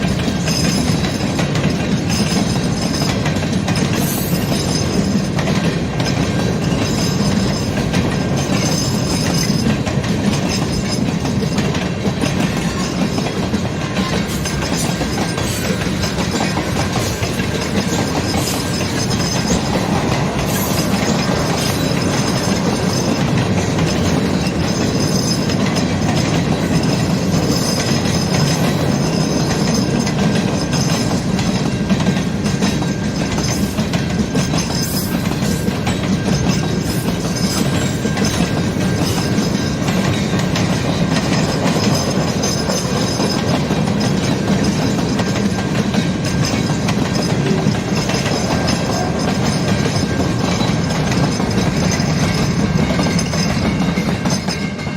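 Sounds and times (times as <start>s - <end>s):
freight train rolling past: 0.0s - 54.9s
wheels clicking over rail joints: 0.0s - 54.9s.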